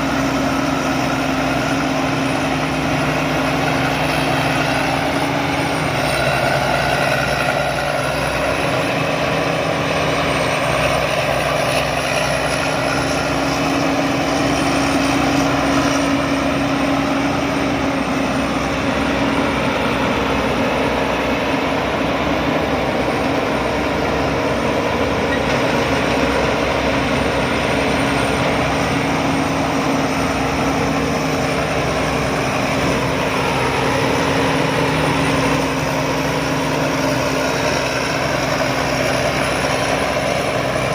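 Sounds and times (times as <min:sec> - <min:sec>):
combine harvester engine hum: 0:00.0 - 0:40.9
threshing machinery noise: 0:00.0 - 0:40.9.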